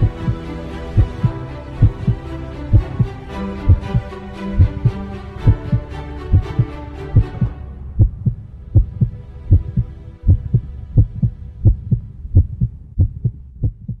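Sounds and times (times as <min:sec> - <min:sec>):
heartbeat thumps: 0:00.0 - 0:00.4, 0:01.0 - 0:14.0
faint held drone: 0:00.0 - 0:13.0.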